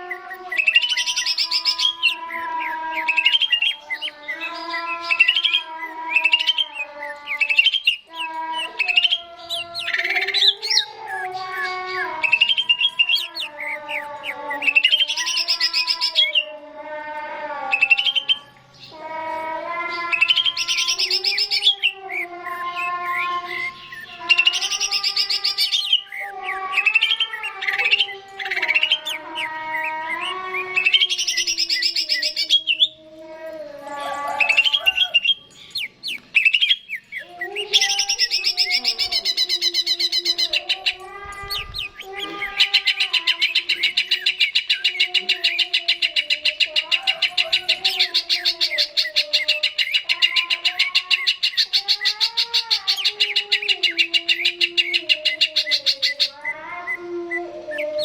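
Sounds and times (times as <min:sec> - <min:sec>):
bird singing whistled phrases and trills: 0:00.0 - 0:16.5, 0:17.7 - 0:19.0, 0:19.6 - 0:33.0, 0:34.2 - 0:58.0.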